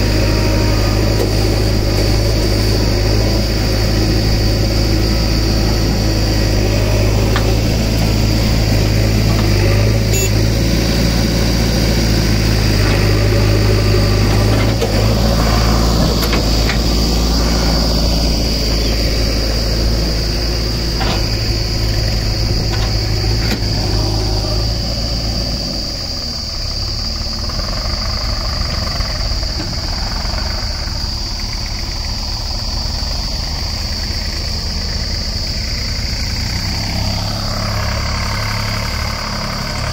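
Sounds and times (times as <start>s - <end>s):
diesel engines idling: 0.0s - 39.9s.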